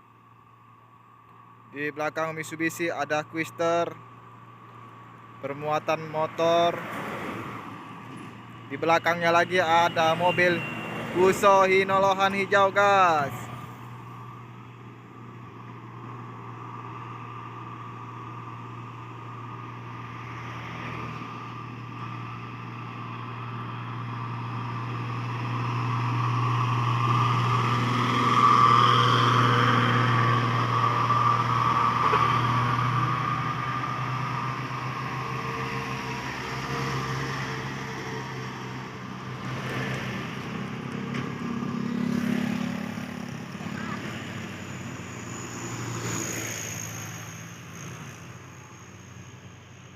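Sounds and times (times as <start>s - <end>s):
truck engine climbing hill: 0.0s - 49.9s
vehicle passing: 5.8s - 49.9s.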